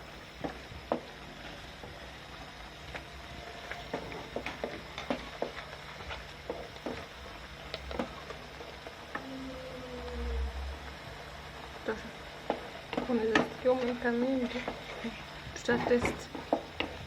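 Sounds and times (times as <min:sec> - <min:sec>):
chicken frying with pops: 0:00.0 - 0:17.0
low hum: 0:00.0 - 0:17.0.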